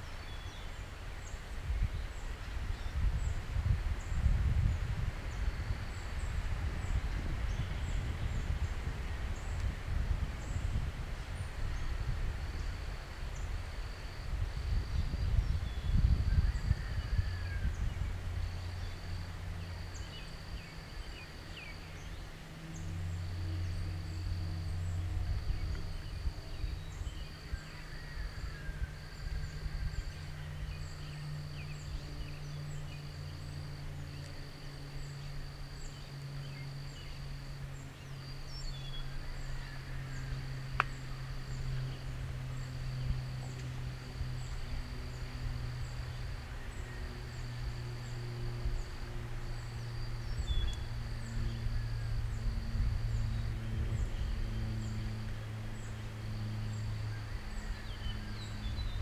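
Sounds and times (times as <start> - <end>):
high insect trill: 0.0 - 59.0
low steady rumble: 0.0 - 59.0.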